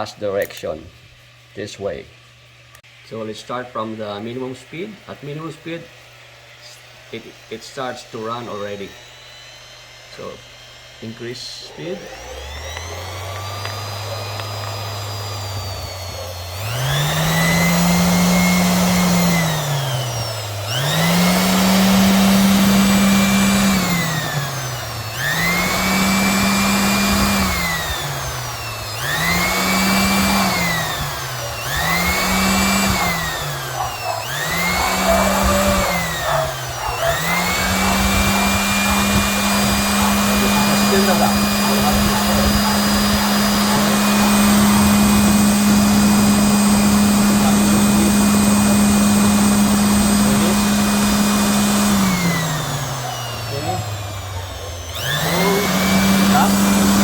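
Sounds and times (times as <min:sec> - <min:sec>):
orbital sander motor running: 0:01.2 - 0:57.0.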